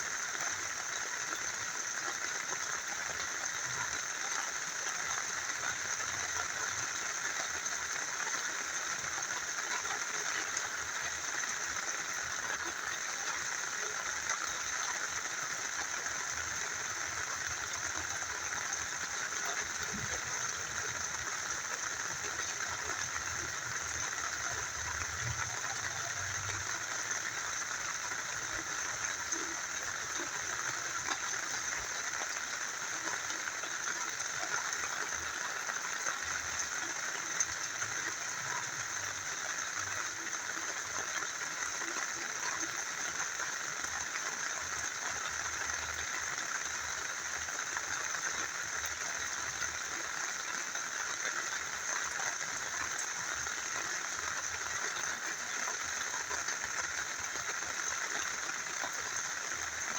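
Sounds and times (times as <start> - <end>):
rain falling: 0.0 - 59.9
river flowing: 0.0 - 59.9.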